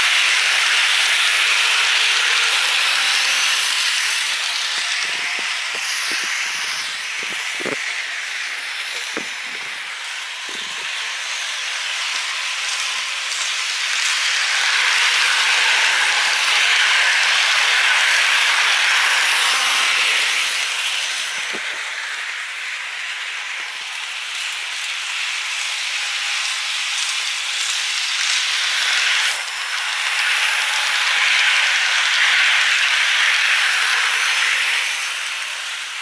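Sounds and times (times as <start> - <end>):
model train wheels rolling: 0.0 - 36.0.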